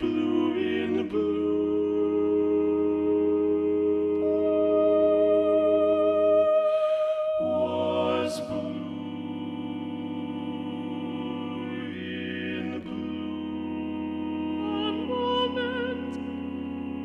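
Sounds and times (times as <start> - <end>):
male a cappella choir singing: 0.0 - 17.0.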